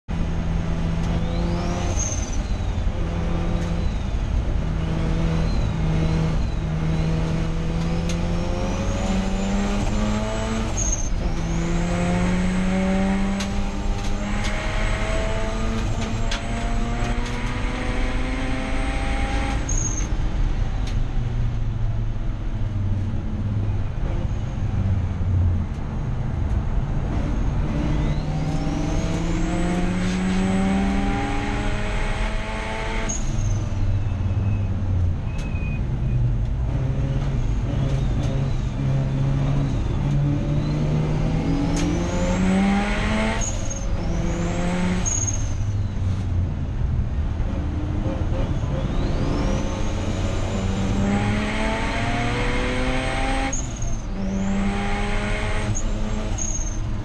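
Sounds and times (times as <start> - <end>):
race car engine revving: 0.1 - 20.1, 27.0 - 34.6, 36.5 - 46.3, 47.2 - 57.0.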